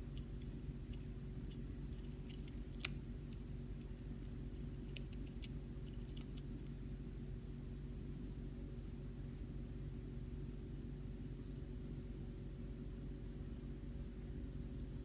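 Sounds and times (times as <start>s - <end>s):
hamster nibbling clicks: 0.0s - 15.0s.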